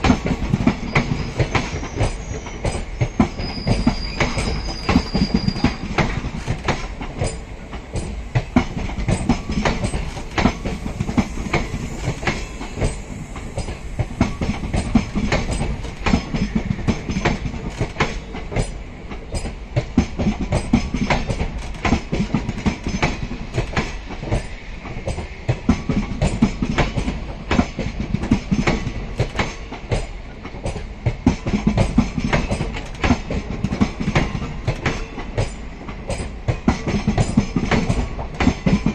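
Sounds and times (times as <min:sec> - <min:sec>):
train wheels clattering: 0:00.0 - 0:38.9.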